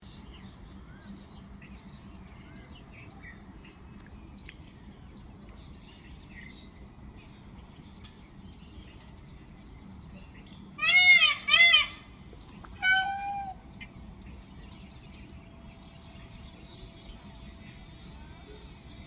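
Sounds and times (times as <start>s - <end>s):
low background noise: 0.0s - 19.0s
small birds chirping: 0.1s - 19.0s.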